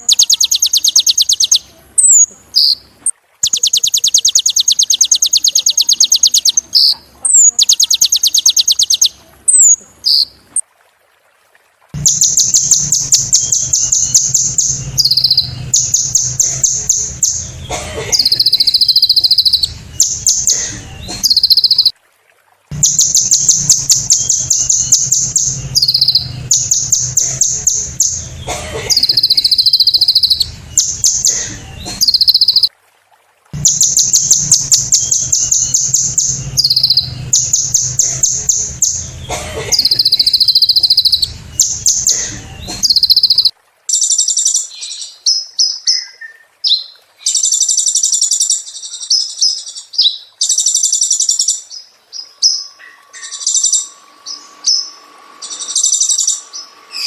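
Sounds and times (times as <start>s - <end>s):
sunbird singing high trills: 0.0s - 2.8s, 3.4s - 10.3s, 12.0s - 21.9s, 22.7s - 31.4s, 32.0s - 32.7s, 33.6s - 57.0s.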